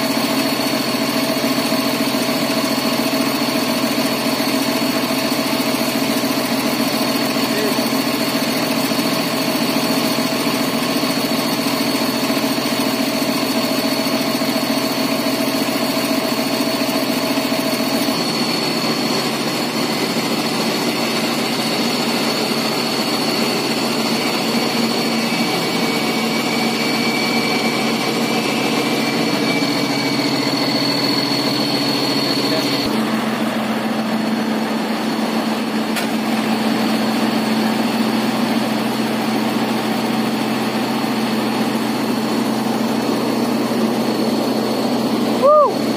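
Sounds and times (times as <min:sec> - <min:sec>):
heavy diesel engines idling: 0:00.0 - 0:45.9
thin steady whine: 0:04.6 - 0:45.9.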